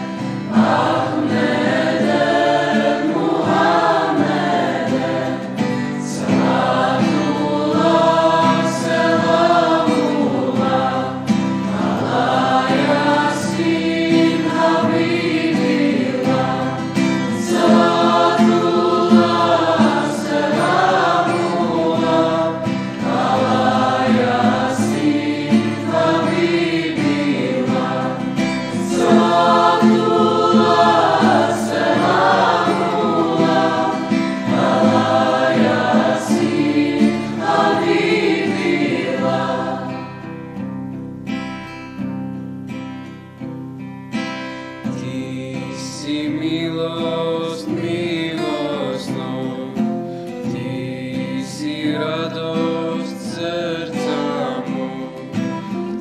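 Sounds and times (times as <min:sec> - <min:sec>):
mixed choir singing: 0:00.0 - 0:40.4, 0:45.0 - 0:56.0.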